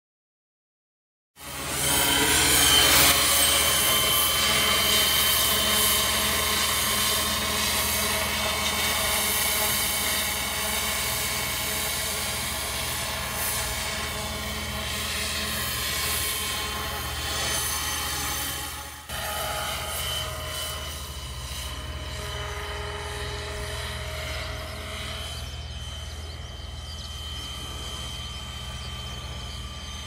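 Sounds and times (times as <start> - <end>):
model helicopter motor whine: 1.4 - 30.0.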